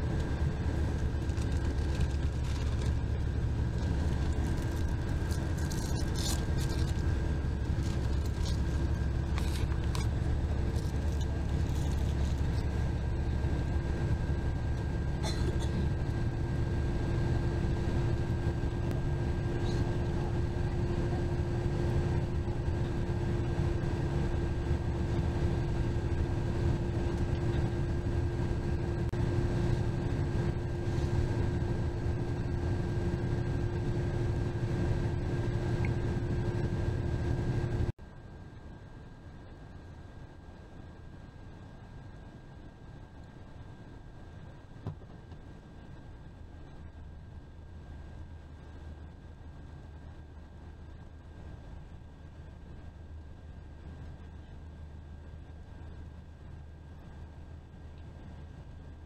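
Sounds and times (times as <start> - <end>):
bus engine and road rumble: 0.0 - 38.1, 38.9 - 59.0
constant hum: 0.0 - 59.0.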